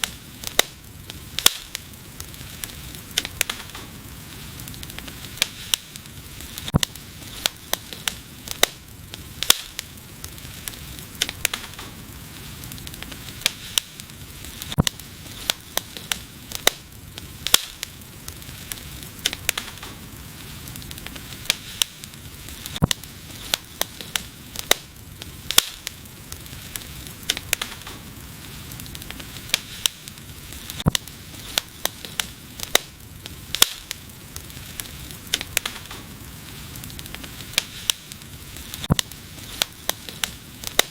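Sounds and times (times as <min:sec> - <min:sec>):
low rush of flames: 0:00.0 - 0:40.9
wood fire crackling and popping: 0:00.0 - 0:40.9.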